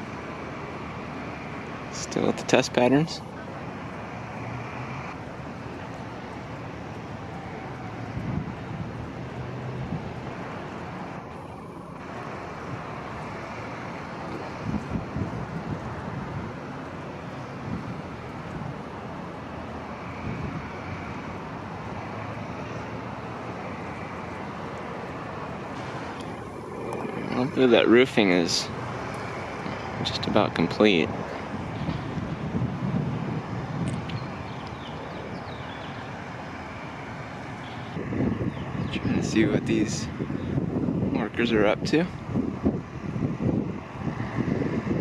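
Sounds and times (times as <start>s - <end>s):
road traffic noise: 0.0s - 45.0s
vehicles passing: 0.0s - 45.0s.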